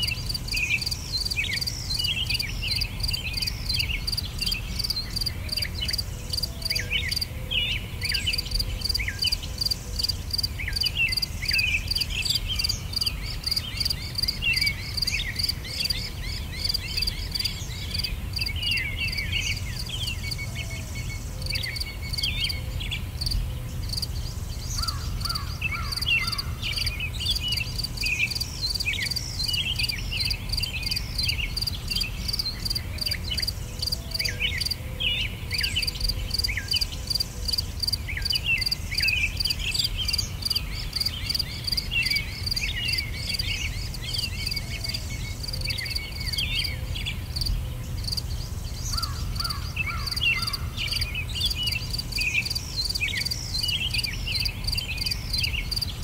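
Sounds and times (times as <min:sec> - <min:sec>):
crickets chirping: 0:00.0 - 0:56.0
small birds chirping: 0:00.0 - 0:56.0.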